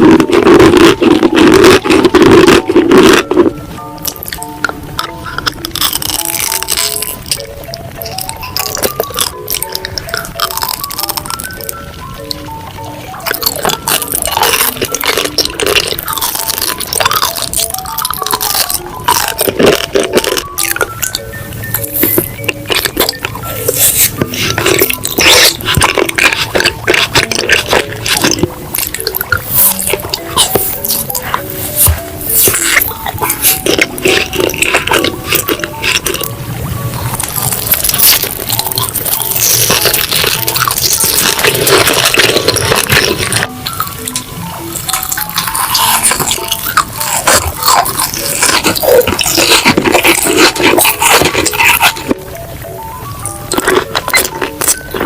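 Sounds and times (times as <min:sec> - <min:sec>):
background music: 0:00.0 - 0:55.0
wet chewing sounds: 0:00.0 - 0:55.0.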